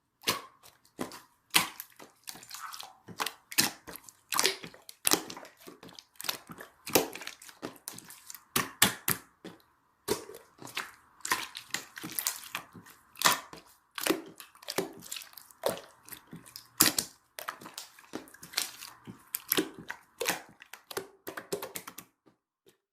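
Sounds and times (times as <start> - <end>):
jelly crushed and squished: 0.2 - 22.1.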